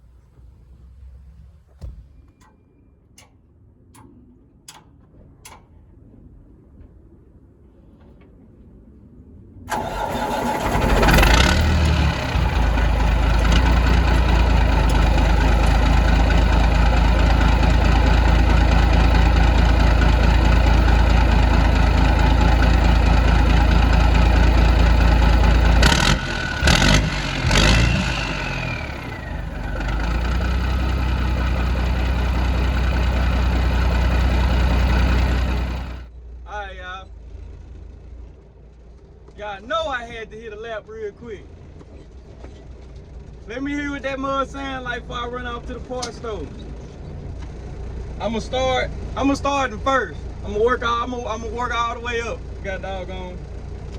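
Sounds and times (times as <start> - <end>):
diesel truck engine running: 0.0 - 2.6, 9.7 - 53.9.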